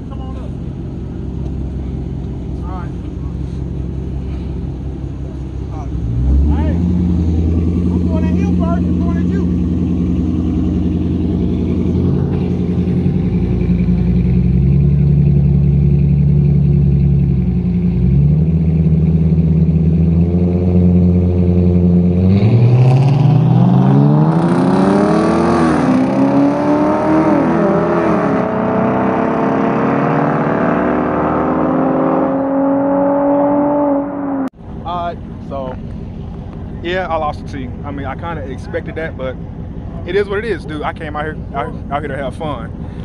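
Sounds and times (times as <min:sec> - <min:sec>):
car engines idling and revving: 0:00.0 - 0:43.0
cars accelerating with gear shifts: 0:00.2 - 0:43.0.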